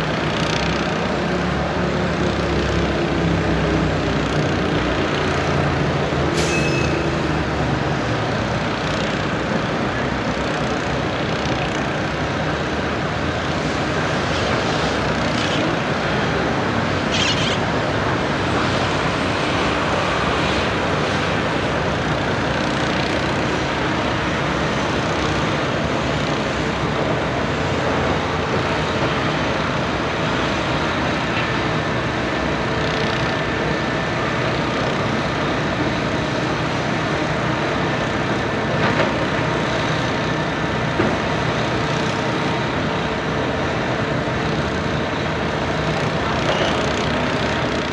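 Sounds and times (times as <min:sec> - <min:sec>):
diesel construction equipment running: 0:00.0 - 0:47.9
traffic noise: 0:00.0 - 0:47.9.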